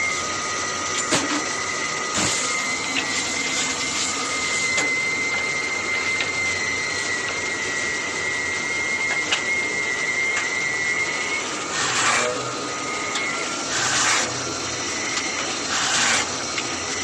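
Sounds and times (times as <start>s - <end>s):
drilling machine whining: 0.0s - 17.0s.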